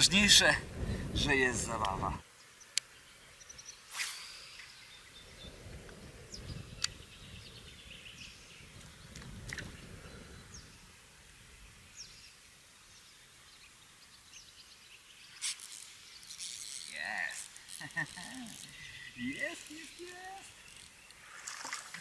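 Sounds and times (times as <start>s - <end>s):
small birds chirping: 1.2s - 22.0s.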